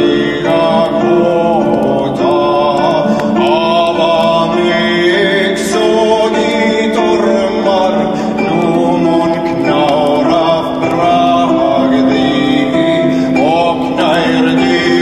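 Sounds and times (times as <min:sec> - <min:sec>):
song with sung melody: 0:00.0 - 0:15.0.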